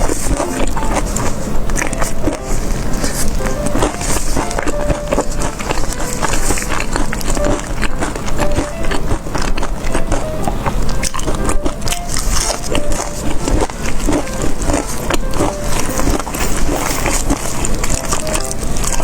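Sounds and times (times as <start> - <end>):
chewing crunchy food: 0.0 - 19.0.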